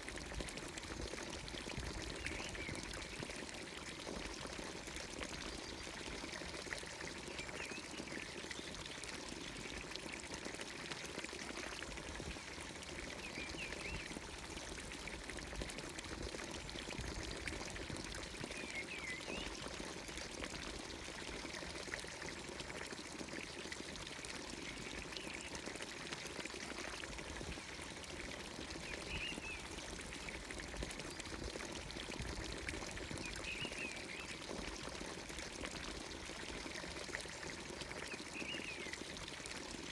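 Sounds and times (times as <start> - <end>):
water pouring into trough: 0.0 - 39.9.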